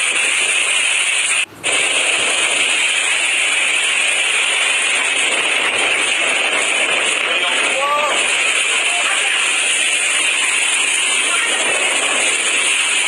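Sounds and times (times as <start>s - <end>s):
strong wind hissing: 0.0s - 13.0s.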